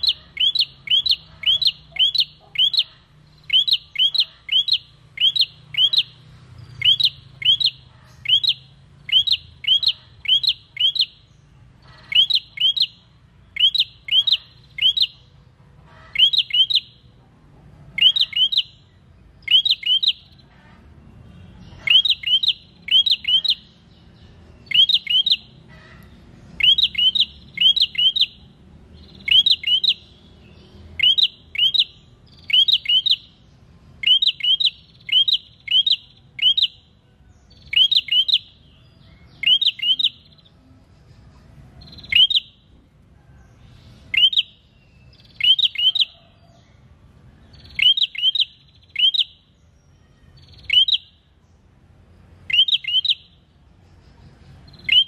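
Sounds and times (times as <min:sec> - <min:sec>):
bird chirping sharp high calls: 0:00.0 - 0:17.1, 0:17.9 - 0:40.6, 0:41.8 - 0:42.8, 0:43.8 - 0:55.0.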